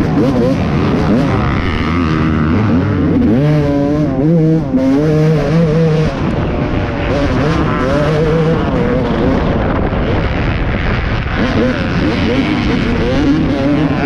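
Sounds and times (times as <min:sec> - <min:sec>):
race engine revving: 0:00.0 - 0:14.0.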